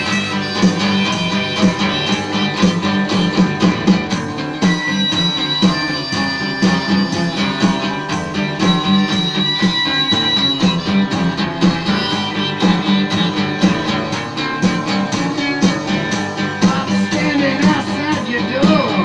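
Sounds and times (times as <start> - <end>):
rockabilly guitar music: 0.0 - 19.0.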